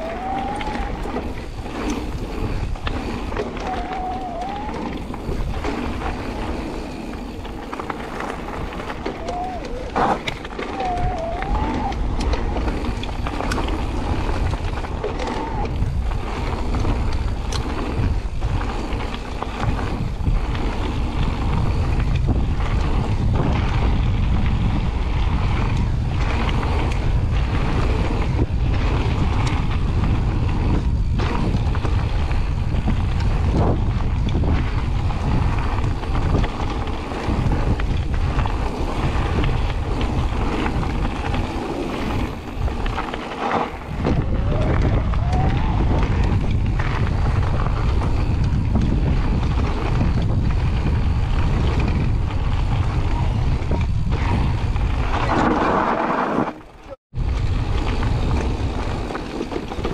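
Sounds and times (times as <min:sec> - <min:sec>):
bike knocks and rattles: 0:00.0 - 0:59.9
bike tyres rumbling over gravel: 0:00.0 - 0:59.9
wind buffeting microphone: 0:00.0 - 0:59.9.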